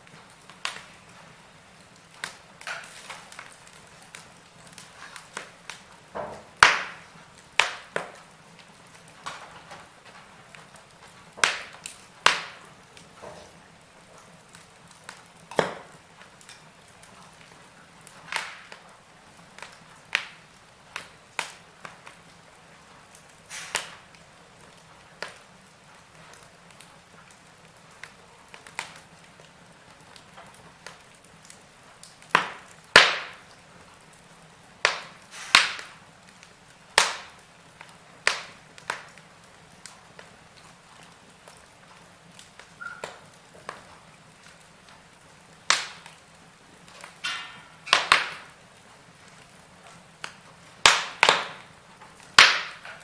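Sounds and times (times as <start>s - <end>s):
faint steady hiss: 0.0s - 53.0s
wood fire pops and snaps: 0.0s - 53.0s.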